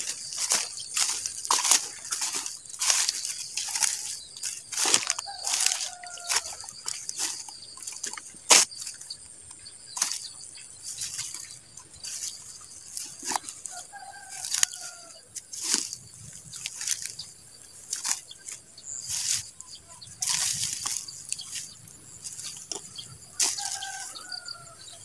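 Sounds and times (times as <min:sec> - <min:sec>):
footsteps crunching through dry stubble: 0:00.0 - 0:25.0.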